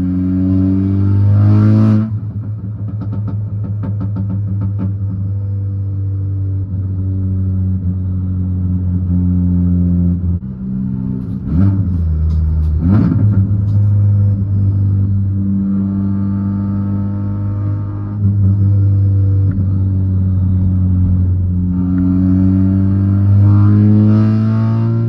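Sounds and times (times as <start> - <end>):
car engine low drone: 0.0 - 25.0.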